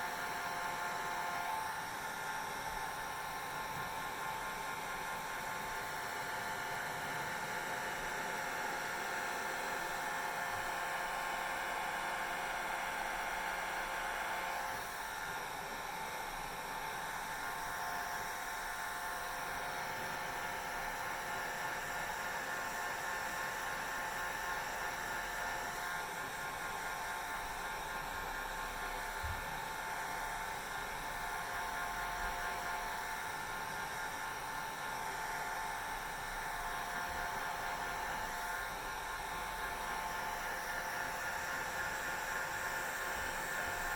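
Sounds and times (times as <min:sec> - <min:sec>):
hair dryer running: 0:00.0 - 0:43.9.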